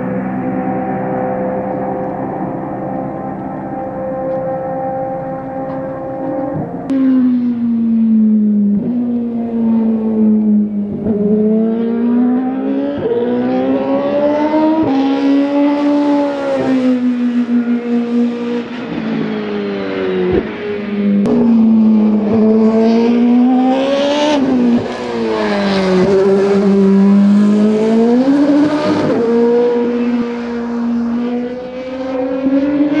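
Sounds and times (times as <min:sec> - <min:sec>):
racing engine revving: 0:00.0 - 0:33.0.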